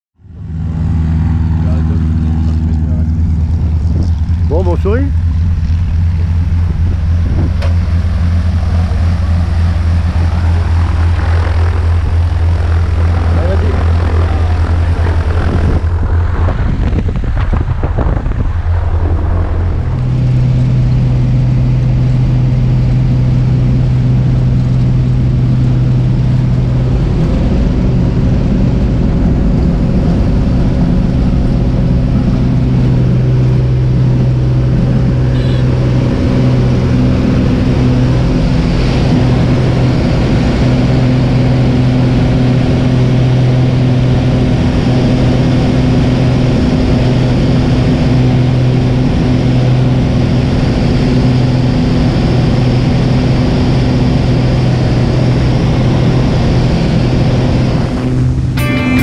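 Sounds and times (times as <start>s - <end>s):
light aircraft engine drone: 0.2s - 59.0s.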